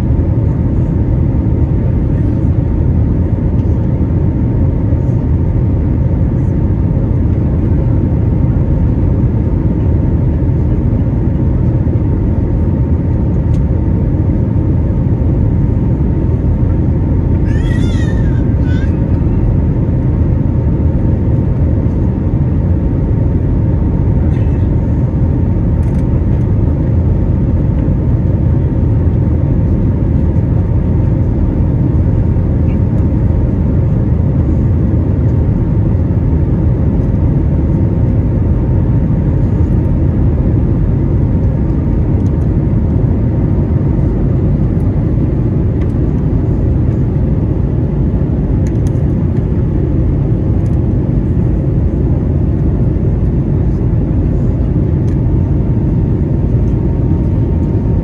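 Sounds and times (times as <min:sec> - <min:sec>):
aircraft engines and airflow rumble: 0:00.0 - 0:58.0.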